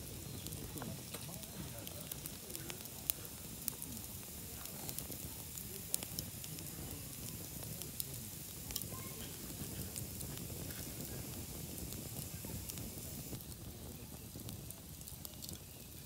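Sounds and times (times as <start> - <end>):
low rumble of burning wood: 0.0 - 16.0
wood fire crackling and popping: 0.0 - 16.0.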